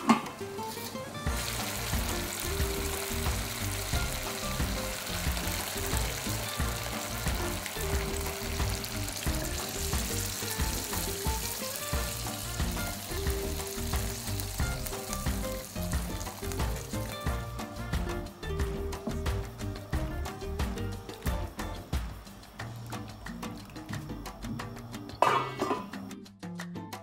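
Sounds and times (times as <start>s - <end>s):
sauce sizzling in pot: 0.0s - 26.1s
background music with steady beat: 0.0s - 27.0s.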